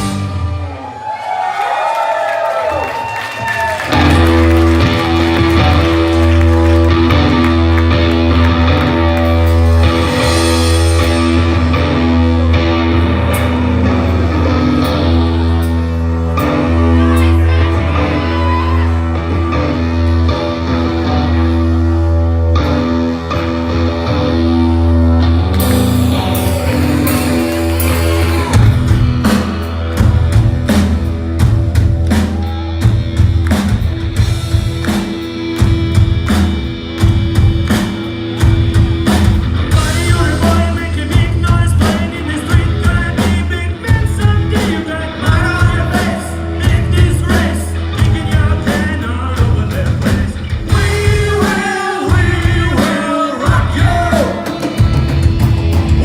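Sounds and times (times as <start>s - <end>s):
drum ensemble playing: 0.0s - 0.8s, 2.9s - 20.8s, 22.7s - 56.0s
rock backing track with singing: 0.0s - 1.7s, 2.6s - 56.0s.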